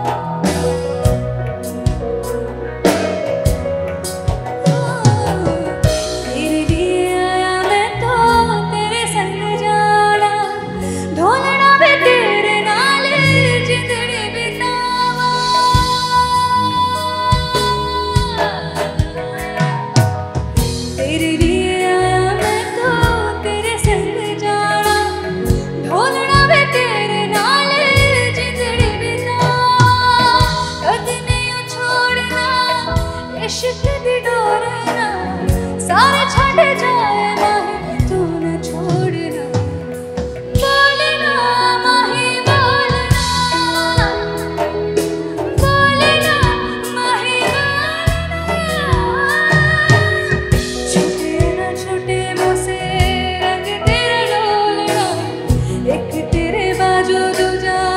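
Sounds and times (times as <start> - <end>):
band with drums: 0.0 - 8.6, 15.2 - 57.8
woman singing into microphone: 4.4 - 57.9.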